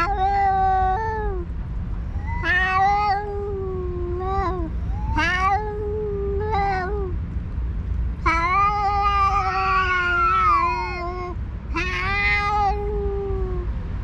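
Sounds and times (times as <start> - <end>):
cats yowling: 0.0 - 1.5, 2.1 - 7.2, 8.2 - 13.7.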